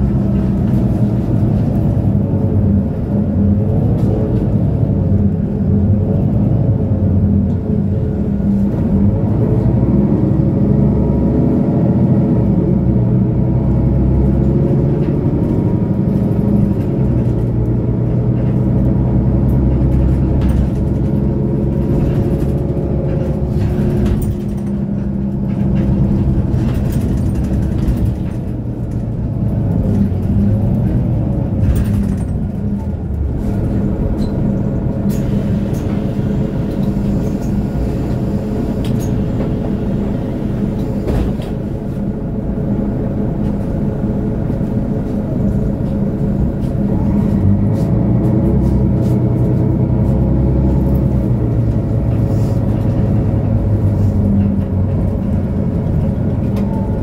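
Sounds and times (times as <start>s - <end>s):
bus diesel engine revving: 0.0s - 57.0s.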